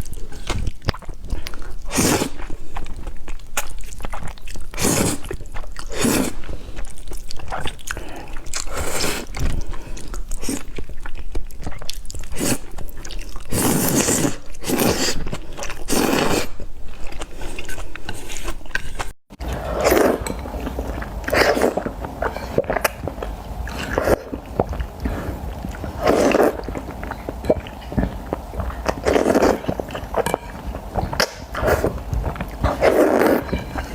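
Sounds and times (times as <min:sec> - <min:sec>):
chewing and biting mouth sounds: 0:00.0 - 0:33.9.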